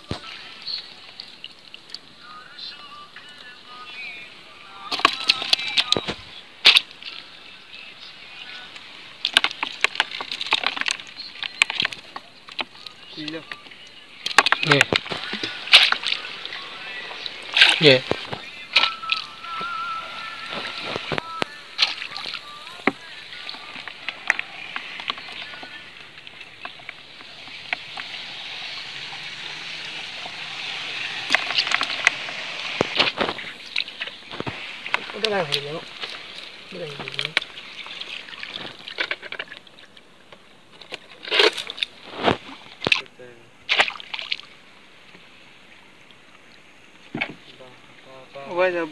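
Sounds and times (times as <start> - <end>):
water trickling and dripping: 0.0 - 4.0, 4.6 - 48.9.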